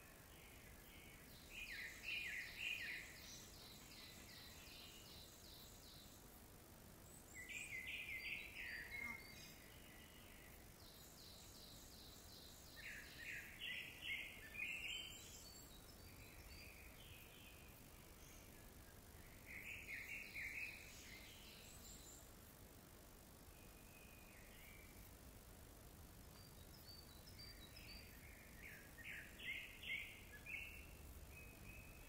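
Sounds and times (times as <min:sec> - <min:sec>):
faint background hiss: 0:00.0 - 0:32.0.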